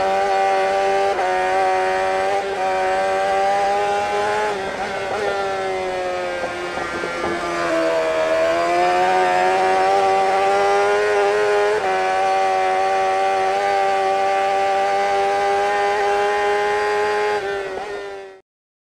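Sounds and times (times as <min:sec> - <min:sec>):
engine revving high: 0:00.0 - 0:18.4.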